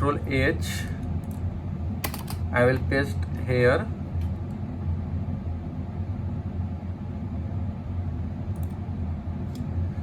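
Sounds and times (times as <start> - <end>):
low rumbling hum: 0.0 - 10.0.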